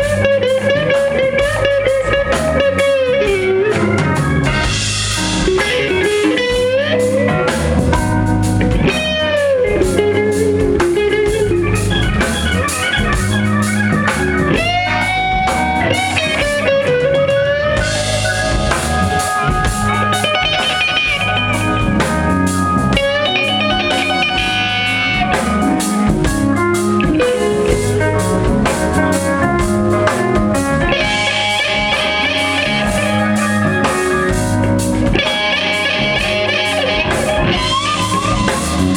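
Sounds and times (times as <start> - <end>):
bass guitar: 0.0 - 38.9
drum kit: 0.0 - 38.9
electric guitar lead: 0.0 - 38.9.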